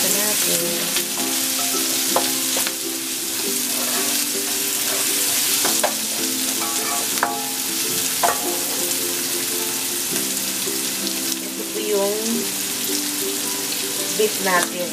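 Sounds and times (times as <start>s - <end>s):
onion sizzling in hot oil: 0.0s - 14.9s.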